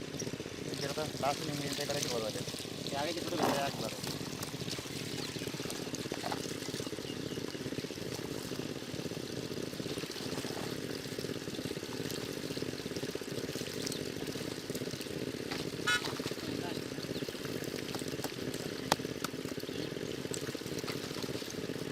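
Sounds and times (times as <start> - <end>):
water pouring: 0.0 - 21.9.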